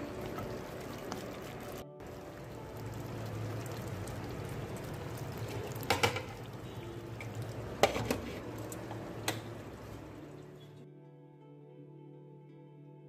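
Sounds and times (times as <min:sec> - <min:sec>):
sauce bubbling in a pan: 0:00.0 - 0:10.6.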